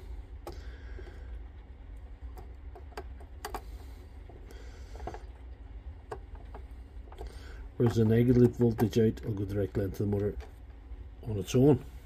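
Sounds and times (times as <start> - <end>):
wires being handled: 0.0 - 11.9
steady low rumble: 0.0 - 12.0.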